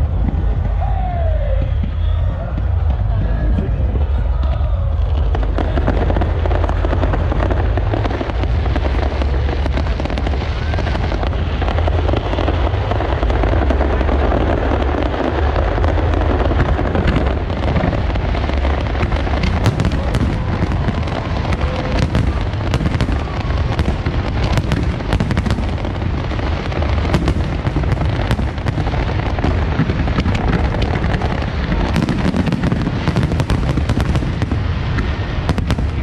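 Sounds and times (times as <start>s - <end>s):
fireworks bursting: 0.0s - 36.0s
sharp firework cracks: 0.0s - 36.0s.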